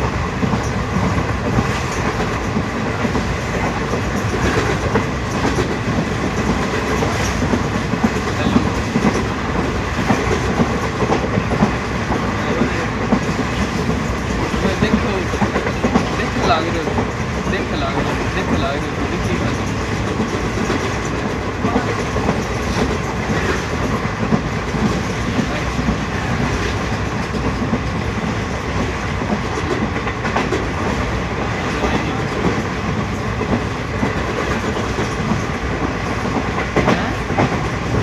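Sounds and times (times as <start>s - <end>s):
train rumbling: 0.0s - 38.0s
wheels clicking on track: 0.4s - 38.0s.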